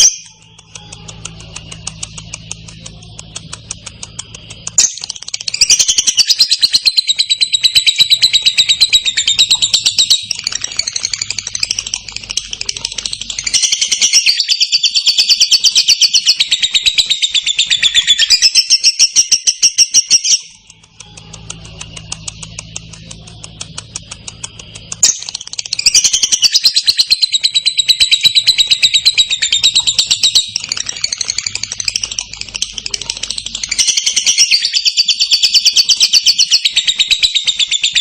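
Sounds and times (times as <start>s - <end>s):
lovebird rapid chatter: 0.0s - 38.0s.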